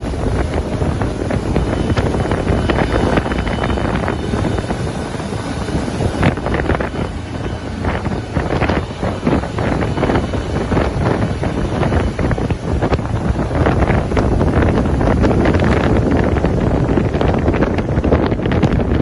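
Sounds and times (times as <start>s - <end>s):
motorboat running: 0.0s - 19.0s
wind buffeting microphone: 0.0s - 19.0s.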